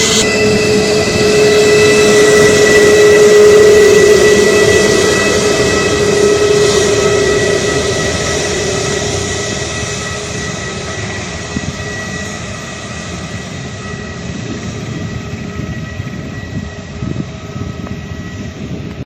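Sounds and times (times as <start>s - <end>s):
broad jet rumble: 0.0s - 19.0s
jet engines whining: 0.0s - 19.0s.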